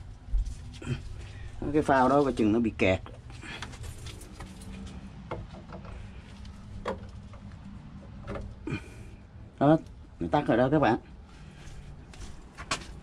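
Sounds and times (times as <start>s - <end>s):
sump pump humming: 0.0s - 13.0s.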